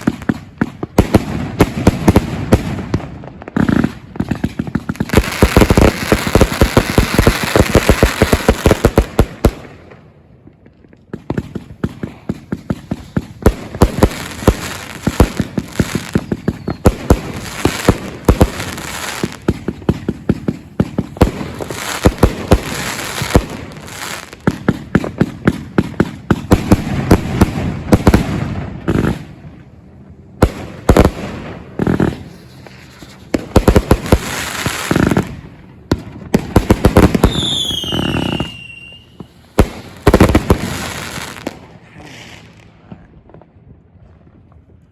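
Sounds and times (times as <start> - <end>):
fireworks crackle: 0.0 - 9.6, 11.3 - 28.3, 30.8 - 35.6, 36.3 - 42.9
fireworks bangs: 0.0 - 29.7, 30.4 - 43.6.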